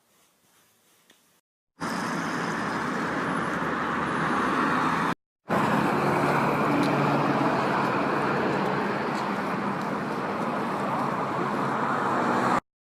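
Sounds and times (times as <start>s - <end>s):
road traffic noise: 1.8s - 12.6s.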